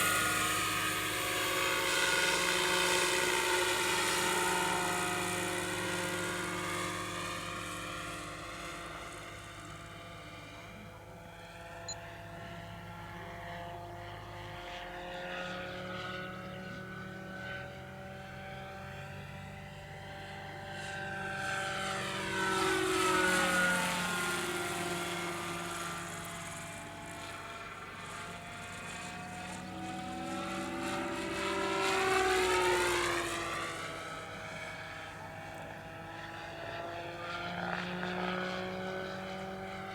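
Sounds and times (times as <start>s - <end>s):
helicopter flying past: 0.0s - 39.9s.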